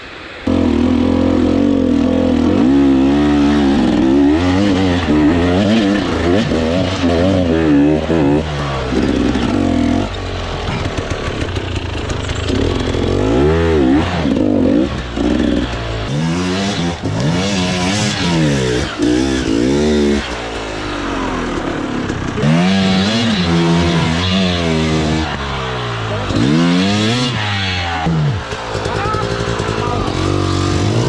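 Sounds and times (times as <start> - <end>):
dirt bike engine revving: 0.4 - 31.0.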